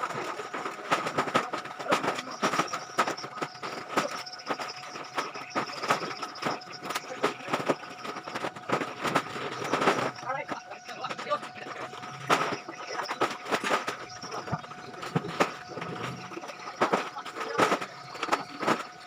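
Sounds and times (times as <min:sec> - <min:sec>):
plastic sacks thumping and crinkling: 0:00.1 - 0:19.0.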